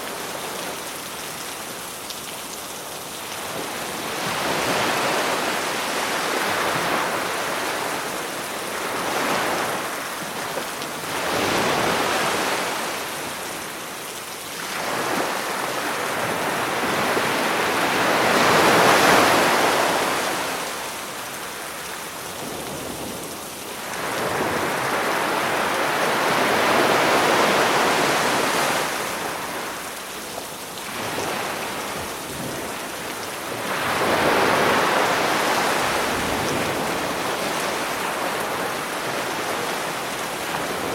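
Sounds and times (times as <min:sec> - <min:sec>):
sea waves breaking on shore: 0:02.9 - 0:40.9.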